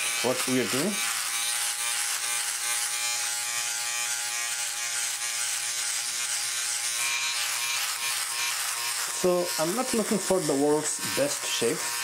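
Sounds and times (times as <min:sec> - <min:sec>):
electric shaver buzzing: 0:00.0 - 0:12.0.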